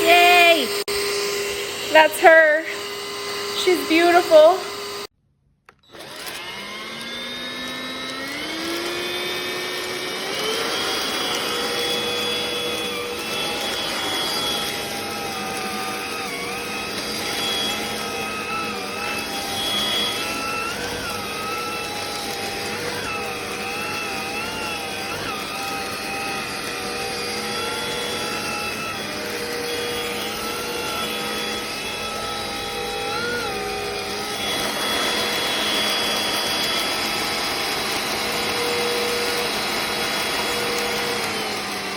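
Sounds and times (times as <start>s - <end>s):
vacuum motor whining: 0.0s - 5.1s, 5.7s - 41.9s.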